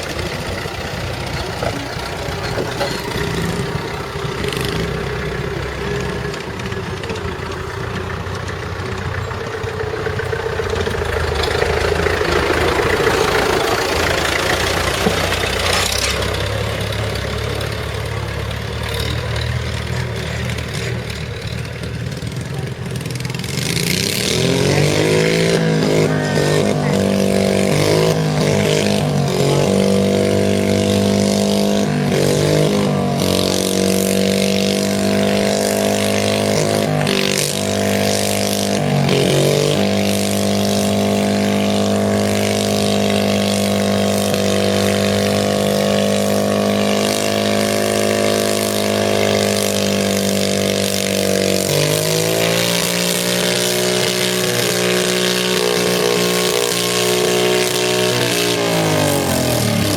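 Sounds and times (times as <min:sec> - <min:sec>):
tractor engine running hard: 0:00.0 - 0:59.9.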